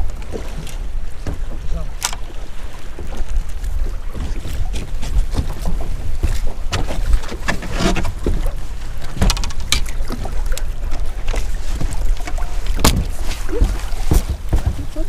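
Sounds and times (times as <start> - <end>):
water slapping boat hull: 0.0 - 15.0
wind rumbling on microphone: 0.0 - 15.0.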